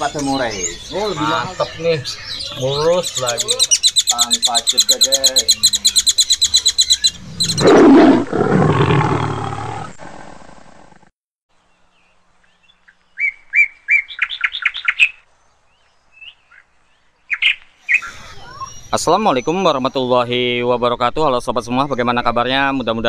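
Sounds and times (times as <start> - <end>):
songbird chirping: 0.0 - 10.0, 11.5 - 23.0.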